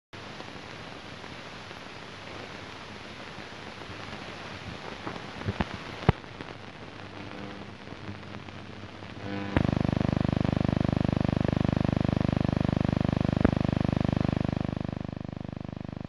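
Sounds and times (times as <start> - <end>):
film soundtrack hiss and crackle: 0.2 - 16.0.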